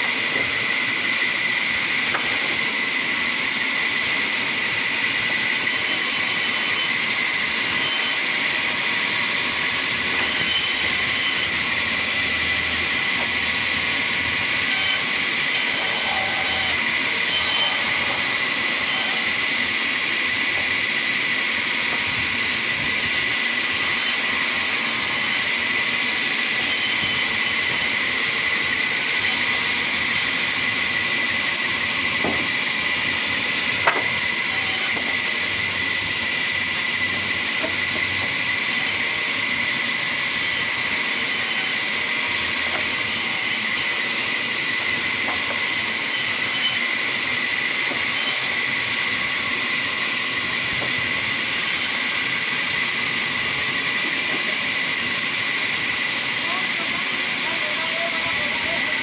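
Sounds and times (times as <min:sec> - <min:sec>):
sawmill machinery whining: 0:00.0 - 0:59.0.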